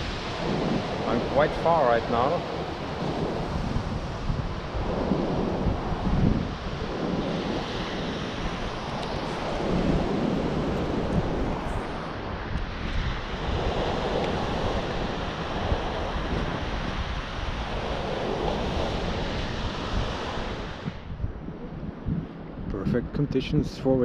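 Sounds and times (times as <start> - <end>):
surf washing: 0.0 - 24.0
wind buffeting microphone: 0.0 - 24.0.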